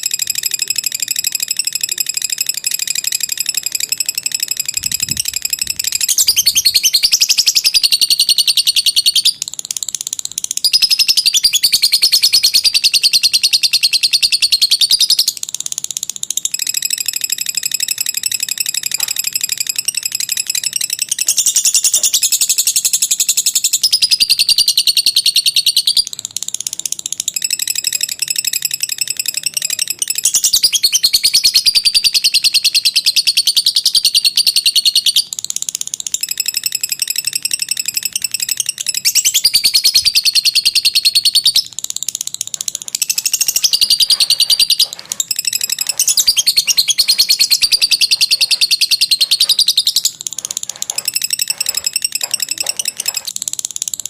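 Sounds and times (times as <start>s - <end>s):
bird chattering trill: 0.0s - 54.0s.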